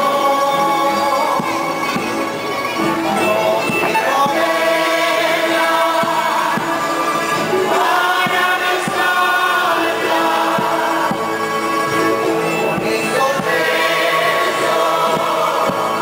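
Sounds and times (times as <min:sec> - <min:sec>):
folk group singing in chorus: 0:00.0 - 0:16.0
guitars and double bass: 0:00.0 - 0:16.0
low drum beats: 0:00.0 - 0:16.0.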